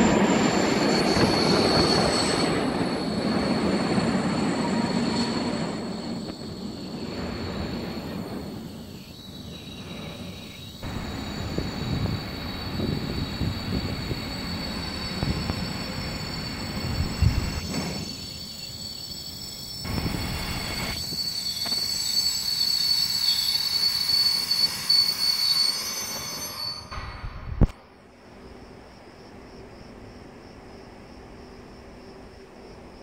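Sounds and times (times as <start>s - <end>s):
high-pitched wheel squeal: 0.0s - 27.7s
freight train wheels rumbling: 0.0s - 33.0s.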